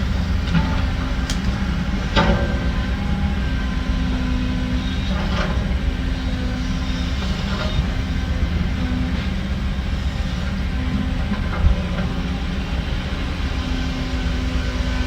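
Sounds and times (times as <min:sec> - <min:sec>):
diesel machinery engine drone: 0:00.0 - 0:15.0.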